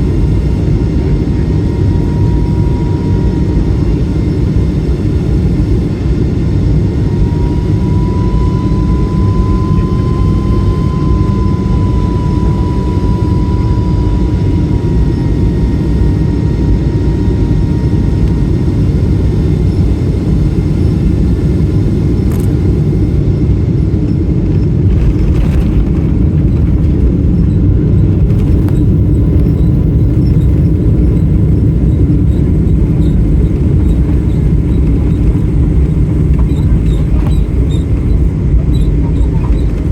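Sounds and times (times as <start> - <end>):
airplane cabin engine rumble: 0.0 - 39.9
faint engine whine: 0.0 - 39.9.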